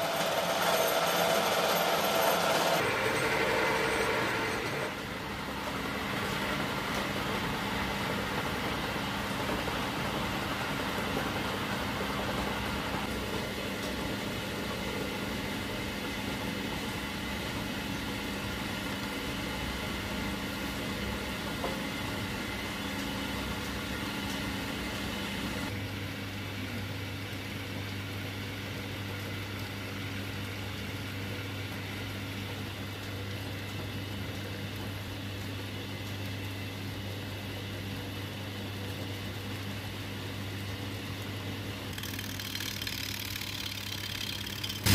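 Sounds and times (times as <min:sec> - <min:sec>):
lathe drive mechanical hum: 0:00.0 - 0:44.9.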